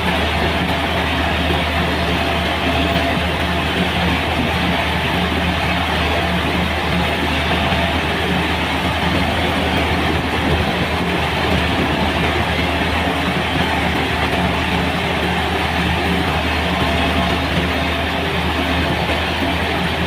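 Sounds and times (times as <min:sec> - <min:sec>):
dense rushing clatter: 0:00.0 - 0:20.0
heavy machine engine hum: 0:00.0 - 0:20.0.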